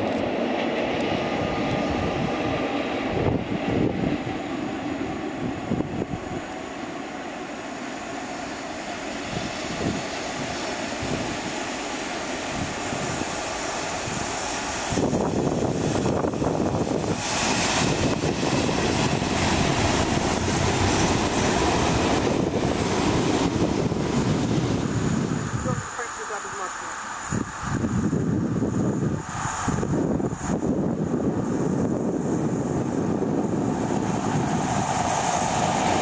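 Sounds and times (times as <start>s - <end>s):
electric locomotive motor and wheels: 0.0s - 36.0s.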